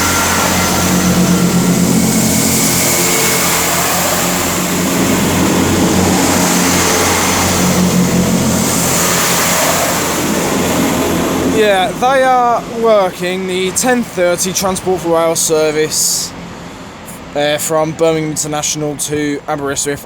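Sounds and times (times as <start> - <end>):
diesel train engines droning: 0.0 - 20.0.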